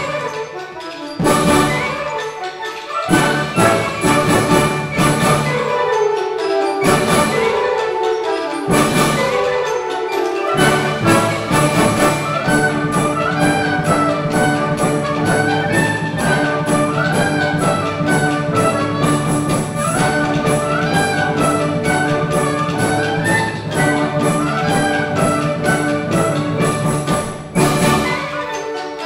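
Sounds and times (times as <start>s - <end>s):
percussion beat: 0.0s - 29.0s
concert band playing: 3.0s - 29.0s.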